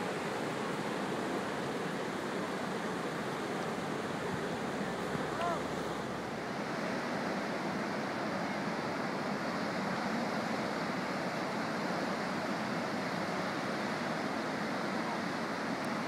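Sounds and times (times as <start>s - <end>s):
surf breaking on a beach: 0.0s - 16.0s.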